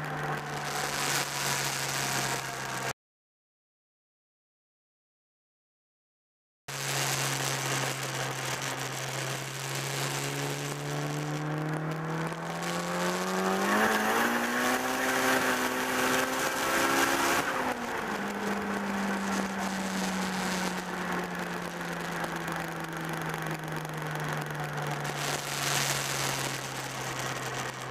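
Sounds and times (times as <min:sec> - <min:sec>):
turbocharged car engine accelerating: 0:00.0 - 0:02.9, 0:06.7 - 0:27.9.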